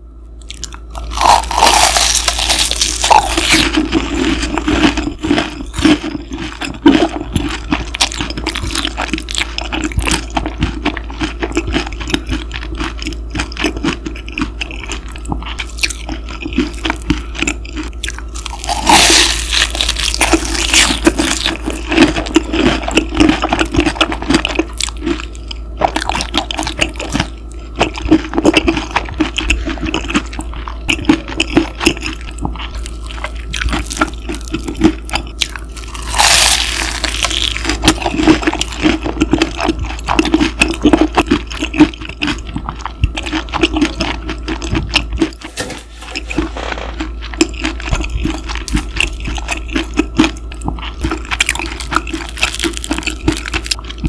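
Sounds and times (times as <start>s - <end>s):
low mechanical hum: 0.0s - 54.0s
chewing crispy food: 0.3s - 54.0s.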